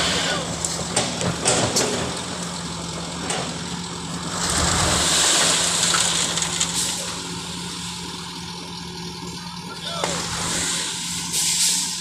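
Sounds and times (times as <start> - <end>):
heavy vehicle engine running: 0.0 - 12.0.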